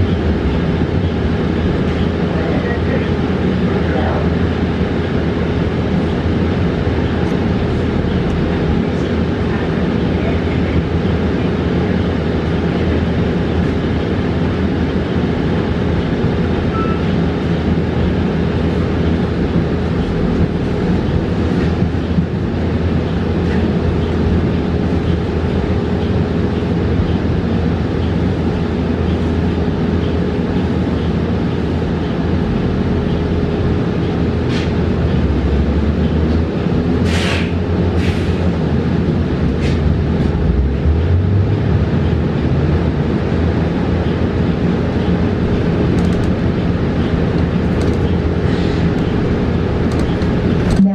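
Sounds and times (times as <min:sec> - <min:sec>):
road and tyre noise: 0:00.0 - 0:50.9.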